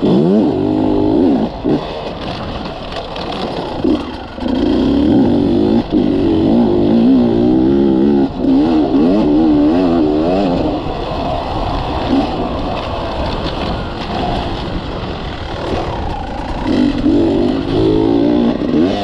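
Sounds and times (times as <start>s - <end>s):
two-stroke dirt bike engine revving: 0.0s - 19.0s.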